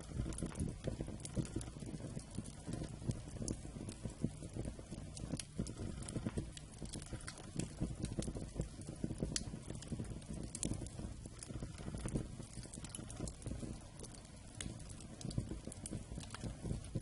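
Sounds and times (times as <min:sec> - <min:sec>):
burning wood crackling and popping: 0:00.0 - 0:17.0
low rumble of flame: 0:00.0 - 0:17.0.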